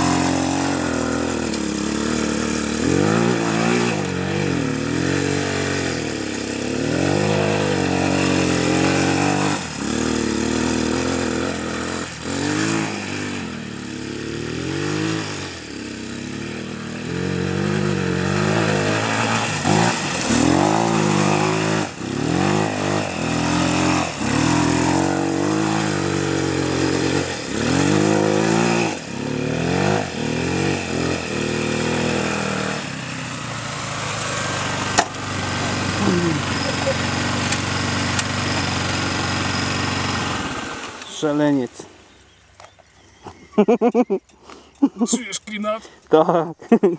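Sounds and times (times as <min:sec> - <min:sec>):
quad bike engine revving: 0:00.0 - 0:41.9.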